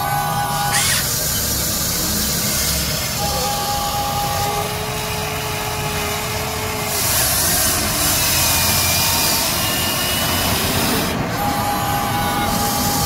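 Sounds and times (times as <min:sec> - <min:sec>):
toy excavator motors whirring: 0:00.0 - 0:13.0.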